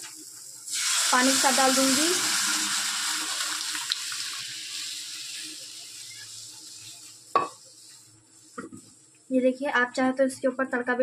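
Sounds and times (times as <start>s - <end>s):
liquid pouring and hissing in pot: 0.0s - 9.1s.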